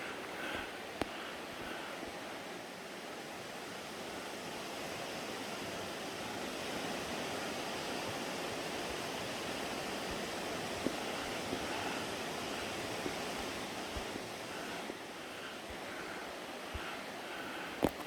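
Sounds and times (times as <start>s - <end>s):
rushing creek water: 0.0s - 18.0s.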